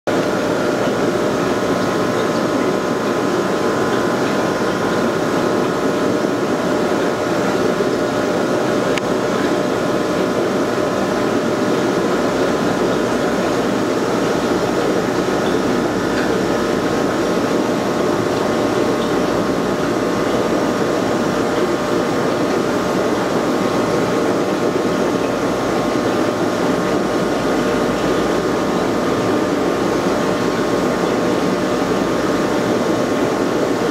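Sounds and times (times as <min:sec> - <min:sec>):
aquarium pump hum: 0:00.1 - 0:33.9.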